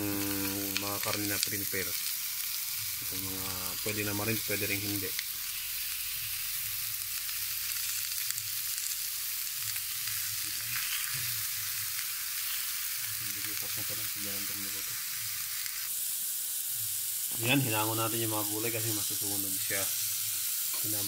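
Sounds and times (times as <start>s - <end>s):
food sizzling on grill pan: 0.0s - 21.0s.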